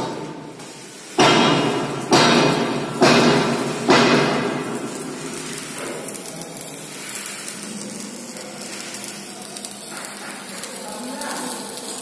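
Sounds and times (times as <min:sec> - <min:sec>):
arc welding crackling sizzle: 0:00.0 - 0:12.0.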